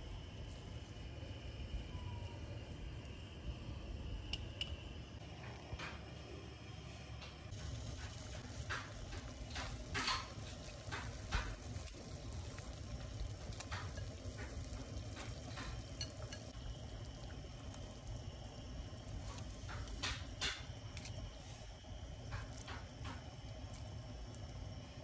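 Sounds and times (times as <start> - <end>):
water boiling in a pot: 0.0 - 25.0.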